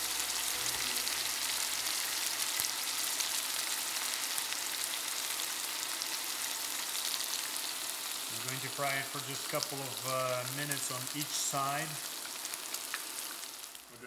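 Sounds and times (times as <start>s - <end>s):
fish sizzling in oil: 0.0s - 14.0s.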